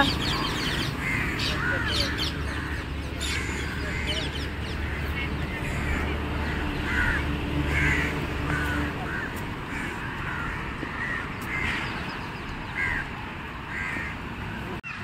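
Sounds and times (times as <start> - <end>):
crows cawing: 0.0 - 13.1, 13.7 - 14.2.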